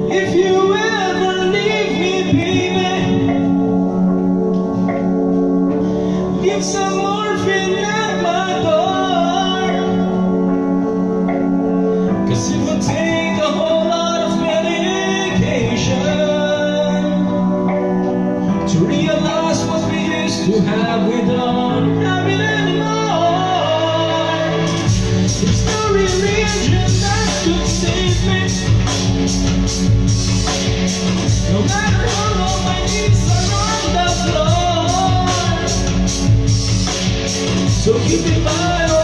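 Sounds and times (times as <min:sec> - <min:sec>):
man singing into a microphone: 0:00.0 - 0:04.2, 0:06.1 - 0:29.5, 0:31.2 - 0:36.7, 0:37.4 - 0:39.0
backing track of sustained chords: 0:00.0 - 0:39.0.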